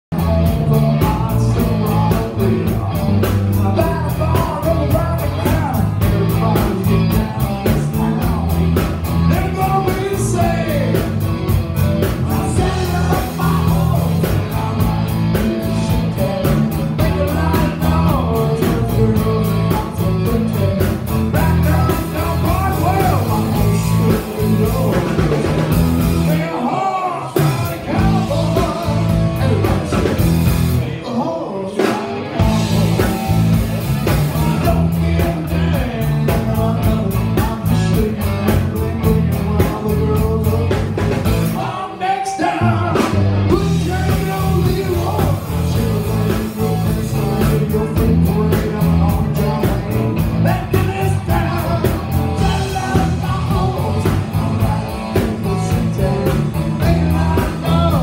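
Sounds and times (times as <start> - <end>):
bass guitar: 0.0 - 58.0
drum kit: 0.1 - 58.0
electric guitars: 0.1 - 58.0
man singing: 0.1 - 58.0.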